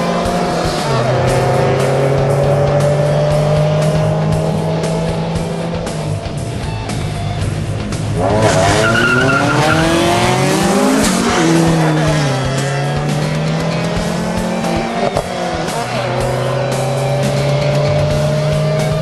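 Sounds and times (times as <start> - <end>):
car engine idling: 0.0 - 18.4
car revving and accelerating past: 0.0 - 19.0.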